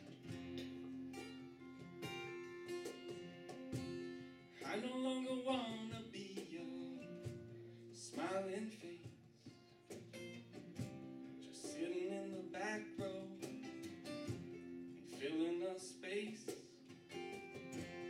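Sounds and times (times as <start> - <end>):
acoustic guitars strumming: 0.0 - 18.0.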